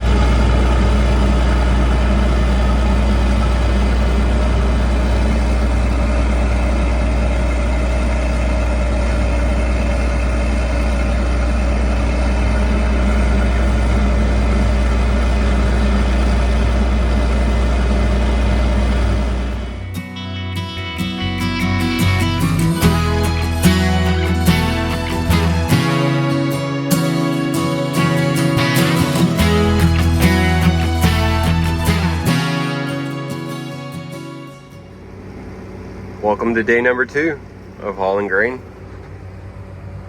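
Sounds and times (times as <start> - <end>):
large diesel engine droning: 0.0 - 40.0.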